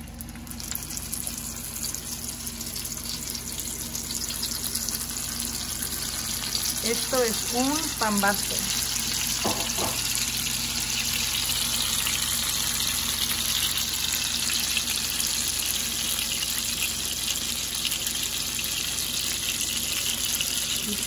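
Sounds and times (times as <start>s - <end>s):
oil sizzling in a frying pan: 0.0s - 21.0s.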